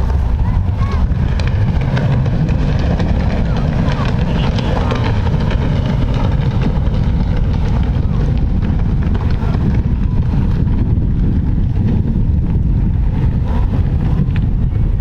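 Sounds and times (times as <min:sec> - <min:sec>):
jet ski engine: 0:00.0 - 0:15.0
water noise: 0:00.0 - 0:15.0
wind buffeting microphone: 0:00.0 - 0:15.0.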